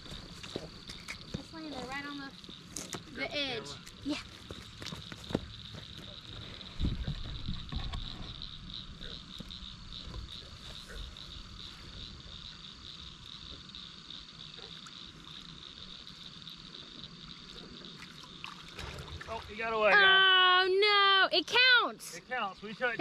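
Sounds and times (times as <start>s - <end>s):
frogs trilling: 0.0s - 23.0s.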